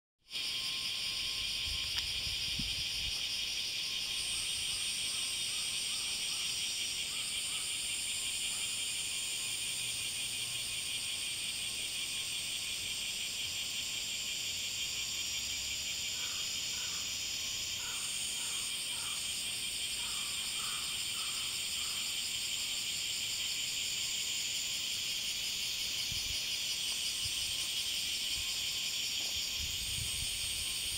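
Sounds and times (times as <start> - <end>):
insects buzzing: 0.3 - 30.9.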